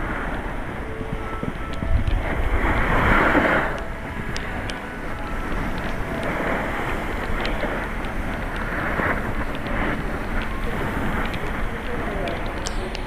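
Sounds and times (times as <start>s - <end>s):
skis sliding over snow: 0.0s - 13.0s
wind on microphone: 0.0s - 13.0s.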